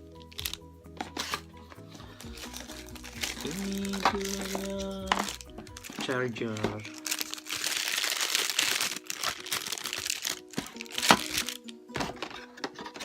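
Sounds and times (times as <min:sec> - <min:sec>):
background music: 0:00.0 - 0:13.0
plastic packaging crinkling: 0:00.2 - 0:13.0.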